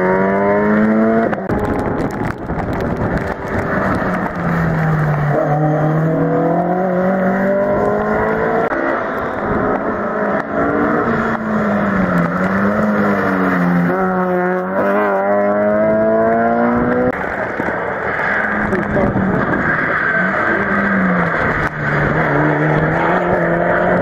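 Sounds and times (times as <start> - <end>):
rally cars passing at full throttle: 0.0 - 24.0.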